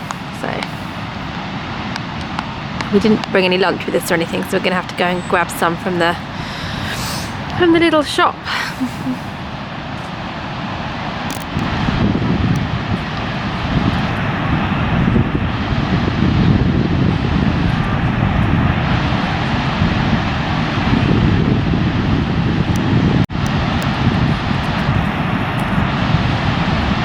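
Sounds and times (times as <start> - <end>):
wind blowing on microphone: 0.0 - 27.0.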